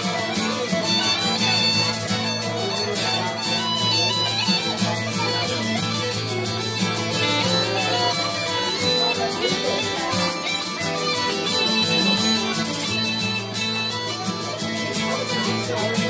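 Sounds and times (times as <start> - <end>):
bagpipe melody over drone: 0.0 - 16.0.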